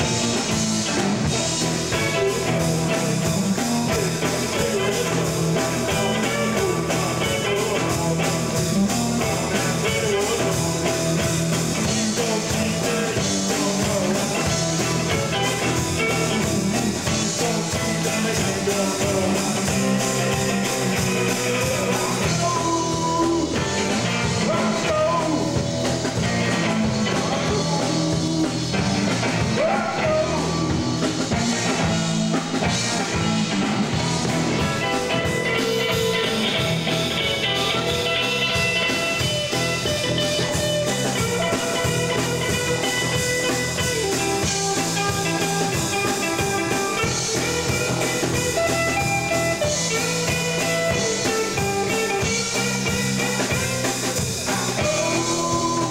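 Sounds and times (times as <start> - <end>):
bass guitar: 0.0 - 55.9
drum kit: 0.0 - 55.9
electric guitars: 0.0 - 55.9
person singing: 1.2 - 31.0, 34.6 - 55.9.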